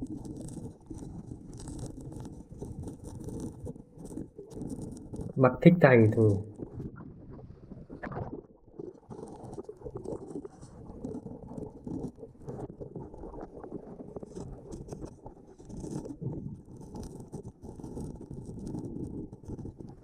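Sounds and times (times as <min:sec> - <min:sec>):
underwater crackle of clicks: 0:00.0 - 0:05.4, 0:06.5 - 0:20.0.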